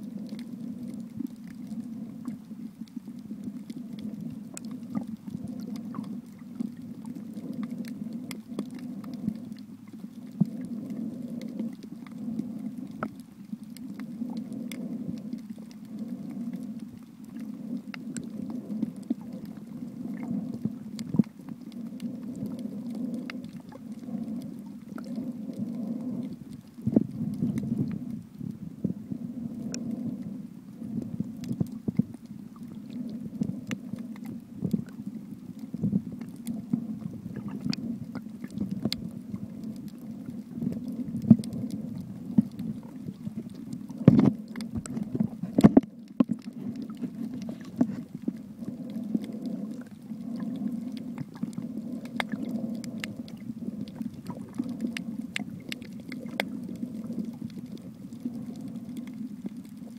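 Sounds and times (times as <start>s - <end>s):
underwater rumble of moving water: 0.0s - 59.9s
underwater clicks: 0.1s - 59.9s.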